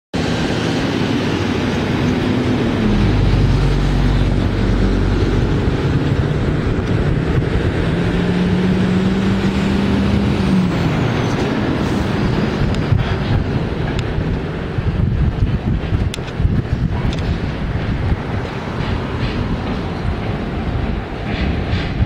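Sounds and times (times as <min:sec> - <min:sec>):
diesel locomotive engine under load: 0:00.1 - 0:22.0.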